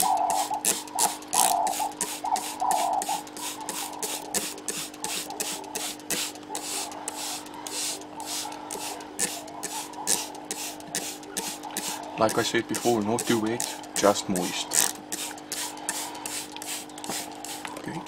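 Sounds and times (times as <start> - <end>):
spray bottle hissing squirts: 0.0 - 13.7, 14.7 - 17.8.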